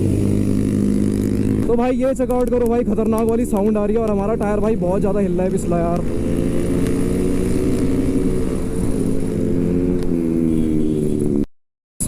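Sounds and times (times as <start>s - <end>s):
motorcycle engine cruising: 0.0s - 11.5s.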